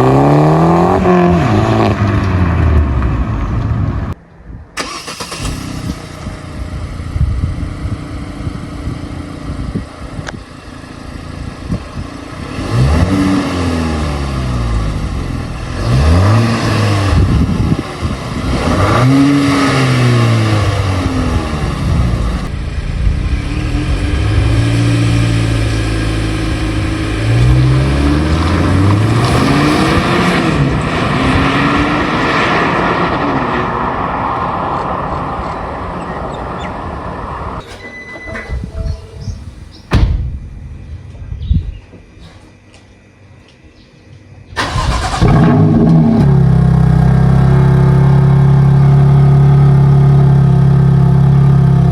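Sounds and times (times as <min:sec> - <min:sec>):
car engine revving: 0:00.0 - 0:04.2, 0:04.8 - 0:09.8, 0:10.5 - 0:35.6, 0:44.6 - 0:51.9.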